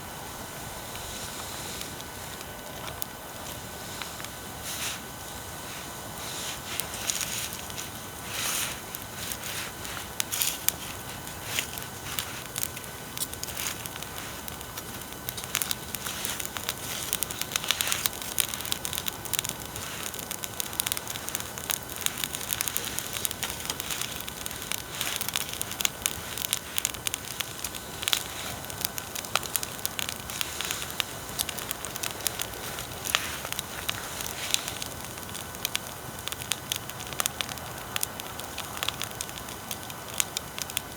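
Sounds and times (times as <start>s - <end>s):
equipment hiss: 0.0s - 37.0s
bonfire crackling and popping: 0.0s - 40.9s.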